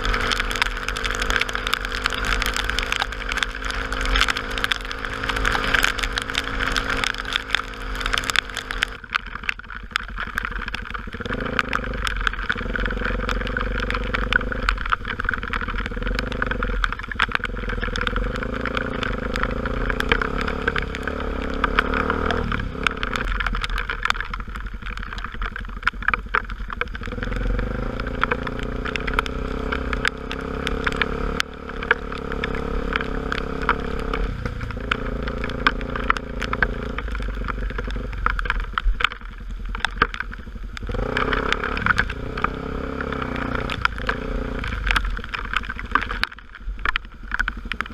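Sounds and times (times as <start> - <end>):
motorcycle engine running: 0.0 - 47.9
road and wind noise: 0.0 - 47.9
small ticks: 0.0 - 47.9.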